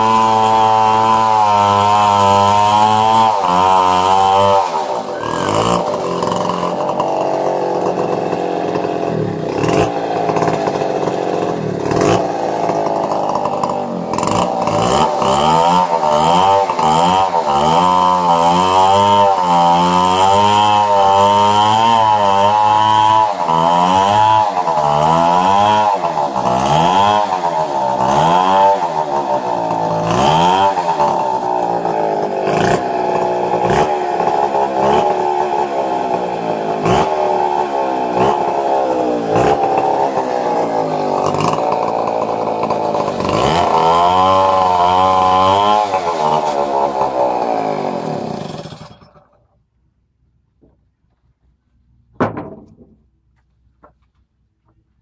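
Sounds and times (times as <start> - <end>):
chainsaw running hard: 0.0 - 49.5.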